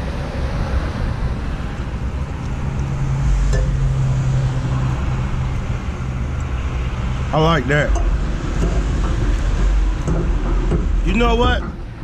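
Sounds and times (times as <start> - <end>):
low steady hum: 0.0 - 12.0
vehicle rumble: 0.0 - 12.0.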